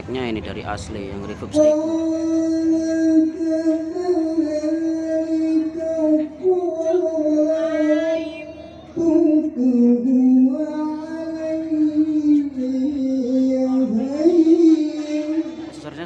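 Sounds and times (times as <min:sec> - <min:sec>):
person singing through pa system: 0:01.6 - 0:15.7.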